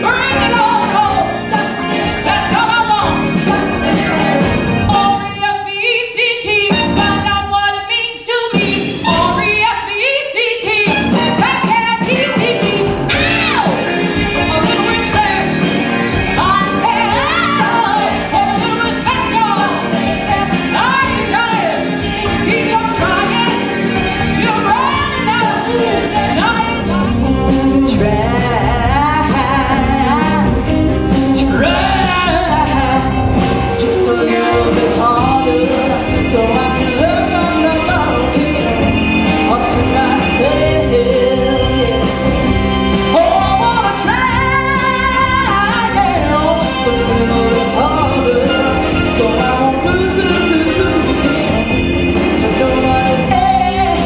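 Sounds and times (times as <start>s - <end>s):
backing band: 0.0s - 54.0s
women singing: 0.0s - 54.0s.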